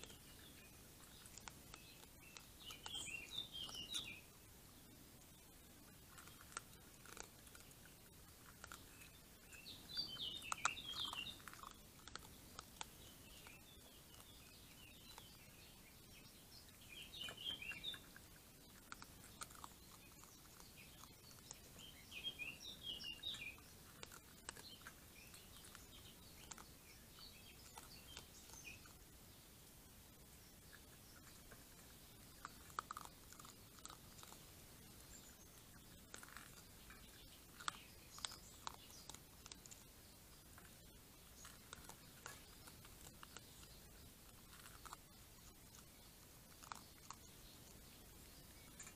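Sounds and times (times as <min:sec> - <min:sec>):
animal crunching dry kibble: 0:00.0 - 0:29.4, 0:30.0 - 0:48.9
songbird chirping: 0:00.0 - 0:48.9.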